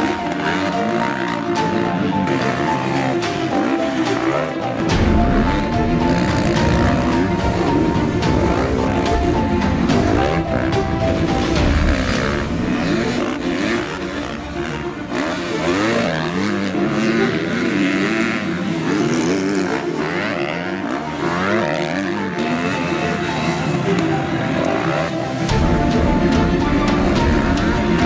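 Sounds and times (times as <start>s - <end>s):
motocross engines revving: 0.0s - 28.0s.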